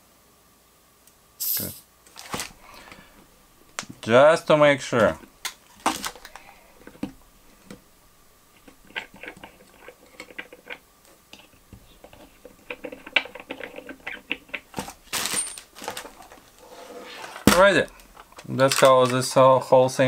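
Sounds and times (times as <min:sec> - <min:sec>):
hands handling metal fittings: 0:02.1 - 0:19.4.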